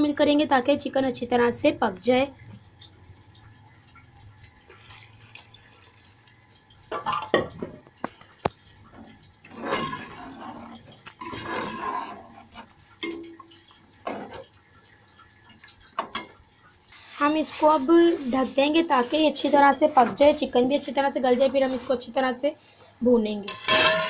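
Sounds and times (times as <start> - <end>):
water pouring into metal pot: 0.8 - 22.5
spoon stirring liquid: 2.4 - 22.2.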